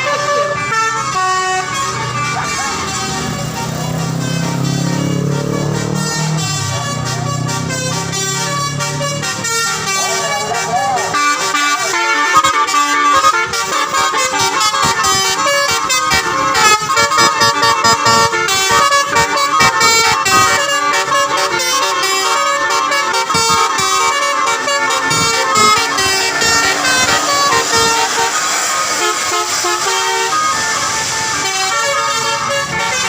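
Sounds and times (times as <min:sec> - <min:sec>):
musical air horn melody: 0:00.0 - 0:33.0.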